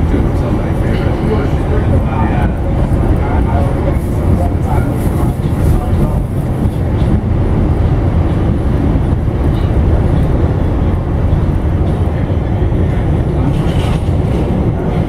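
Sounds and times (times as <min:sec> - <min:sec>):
subway car wheels rumbling on rails: 0:00.0 - 0:15.0.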